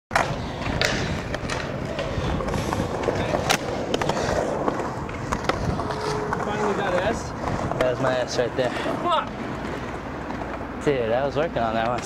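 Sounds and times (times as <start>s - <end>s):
skateboard wheels rolling on pavement: 0.1s - 12.0s.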